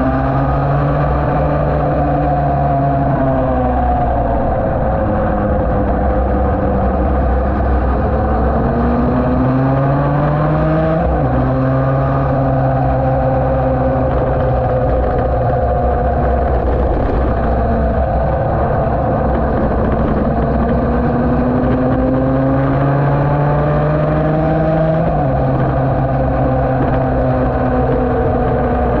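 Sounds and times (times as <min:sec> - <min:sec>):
wind rush: 0:00.0 - 0:29.0
two-stroke motorcycle engine revving: 0:05.7 - 0:29.0.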